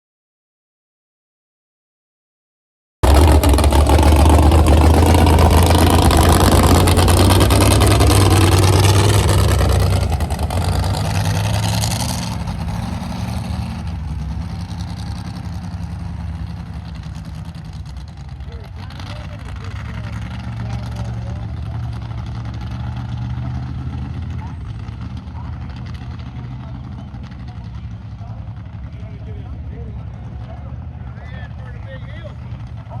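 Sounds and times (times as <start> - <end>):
truck engine at high revs: 3.0 - 33.0.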